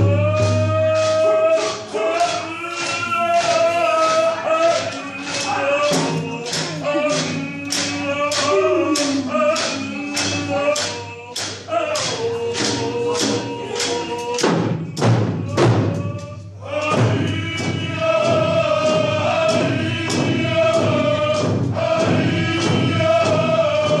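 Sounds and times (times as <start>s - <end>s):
group of voices singing: 0.0s - 24.0s
steady drum beat: 0.0s - 24.0s.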